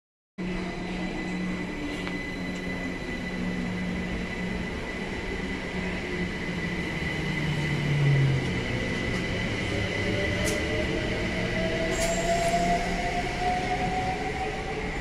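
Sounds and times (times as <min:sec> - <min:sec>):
electric train humming: 0:00.4 - 0:15.0.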